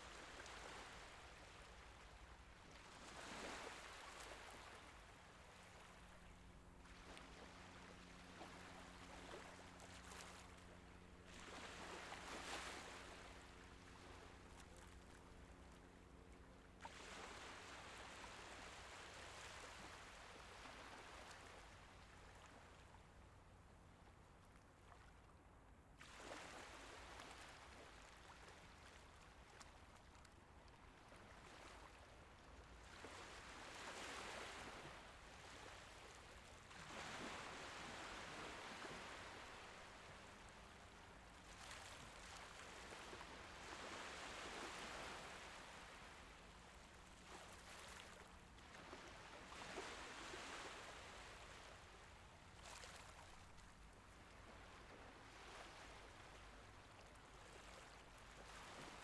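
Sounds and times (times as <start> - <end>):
faint calm sea waves: 0.0 - 59.0.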